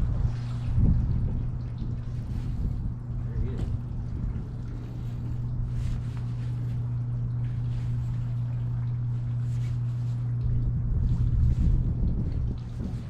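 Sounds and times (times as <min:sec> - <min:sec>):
low mechanical hum: 0:00.0 - 0:13.0
low rumble: 0:00.0 - 0:13.0.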